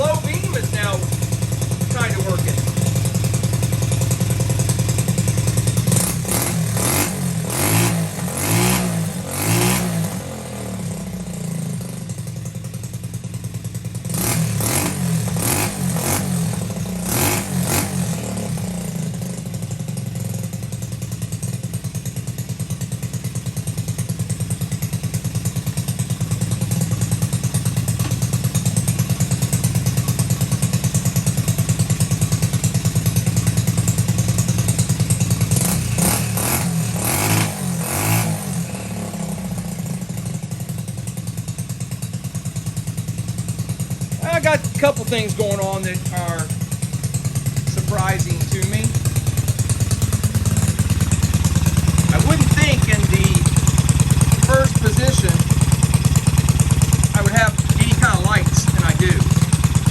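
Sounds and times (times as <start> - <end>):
minibike engine revving and idling: 0.0 - 59.9.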